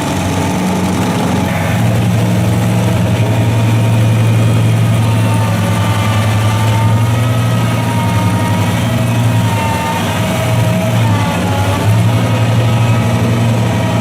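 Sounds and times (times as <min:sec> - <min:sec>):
heavy machinery engine running: 0:00.0 - 0:14.0.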